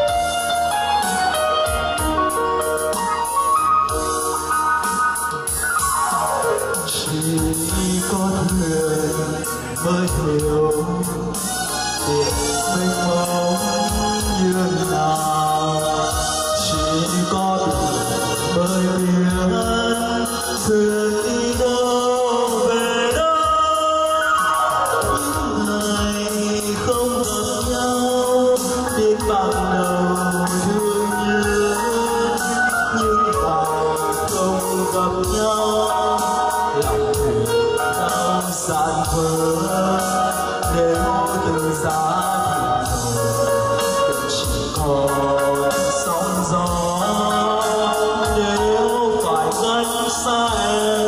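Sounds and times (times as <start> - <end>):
backing music track: 0.0 - 51.0
man singing into a microphone: 0.0 - 51.0.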